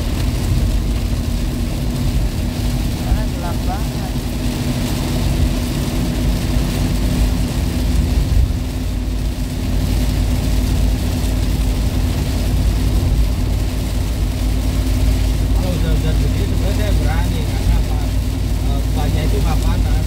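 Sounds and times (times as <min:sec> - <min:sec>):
engine and tyres rumbling: 0:00.0 - 0:20.0
rain and road spray hissing: 0:00.0 - 0:20.0.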